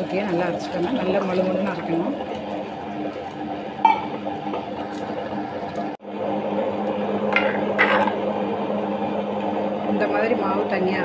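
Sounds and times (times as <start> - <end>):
wet grinder motor hum: 0.0 - 11.0.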